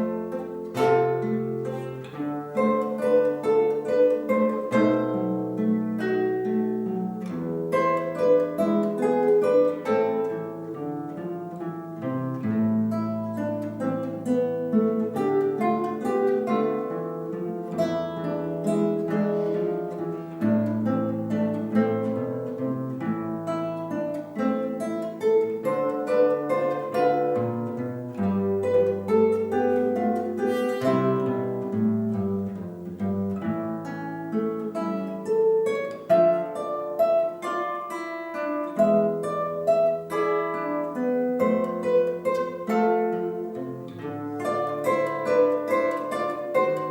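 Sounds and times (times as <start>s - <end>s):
guitar duet: 0.0s - 46.9s.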